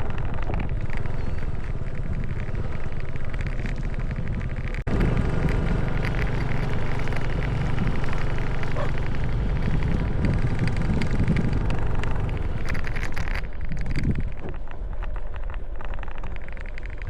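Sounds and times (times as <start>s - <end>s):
road and wind noise: 0.0s - 17.0s
vehicle engine drone: 0.0s - 17.0s.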